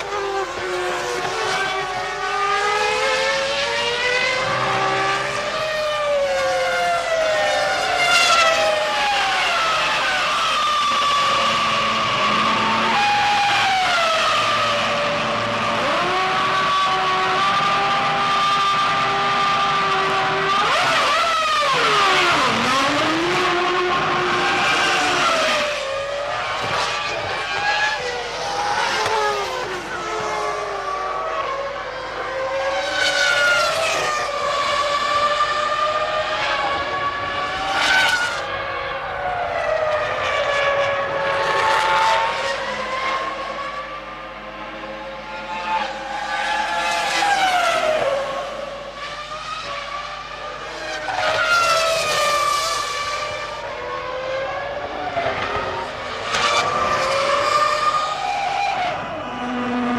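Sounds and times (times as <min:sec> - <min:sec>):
racing cars passing: 0:00.0 - 0:59.9.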